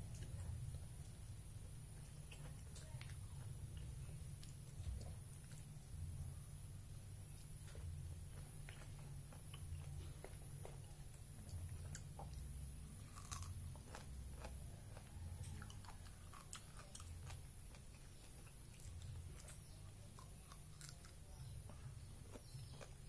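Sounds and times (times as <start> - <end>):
chewing and biting fruit: 0.0 - 23.0
low steady hum: 0.0 - 23.0.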